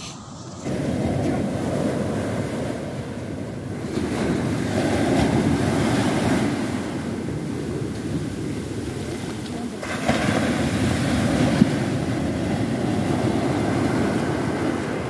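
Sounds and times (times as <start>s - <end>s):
surf washing up beach: 0.0s - 15.0s
wind rumbling on microphone: 0.0s - 15.0s.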